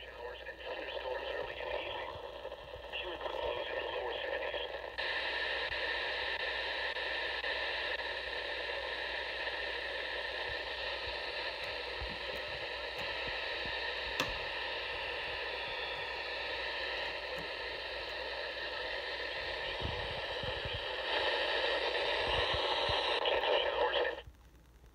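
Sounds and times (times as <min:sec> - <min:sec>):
scanner static hiss: 0:00.0 - 0:24.9.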